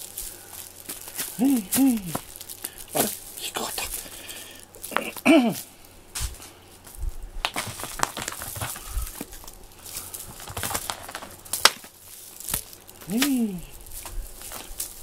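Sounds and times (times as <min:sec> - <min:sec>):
string toy rustling on foam mat: 0:00.0 - 0:15.0.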